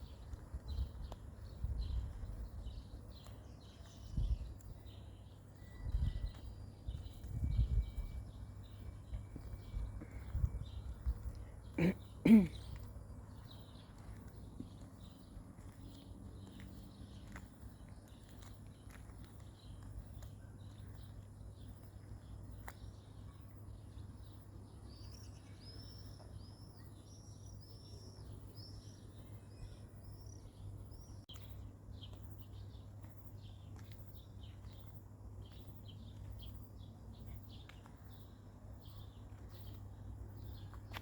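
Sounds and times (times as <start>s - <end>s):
songbird singing: 0.0s - 41.0s.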